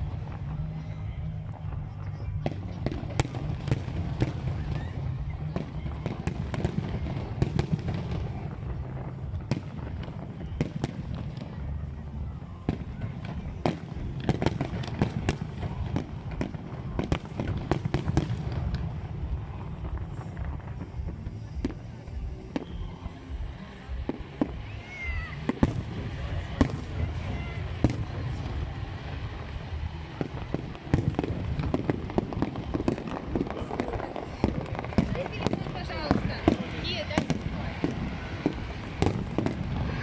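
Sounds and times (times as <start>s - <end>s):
fireworks bangs: 0.0s - 40.0s
low background noise: 0.0s - 40.0s.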